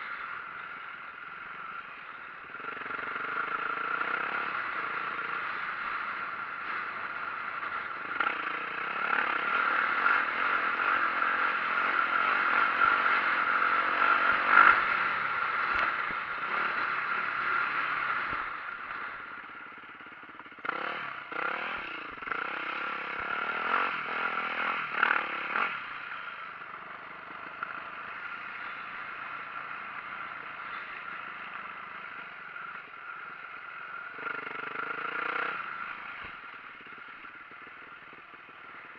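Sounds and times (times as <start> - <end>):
dirt bike engine revving: 2.6 - 38.9.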